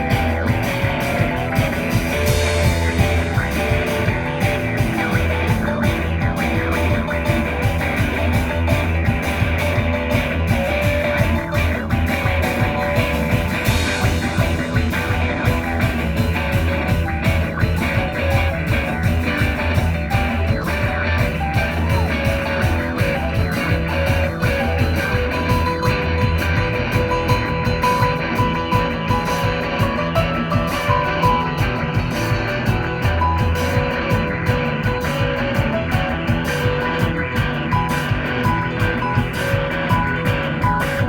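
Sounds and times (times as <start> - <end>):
live rock band jam: 0.0 - 41.0.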